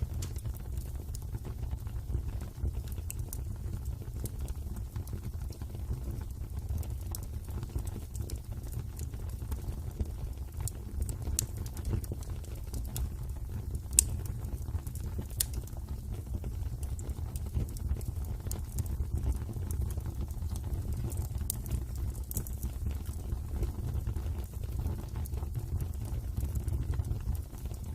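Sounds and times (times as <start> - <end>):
fire crackles and pops: 0.0 - 27.9
fire rumbling: 0.0 - 27.9.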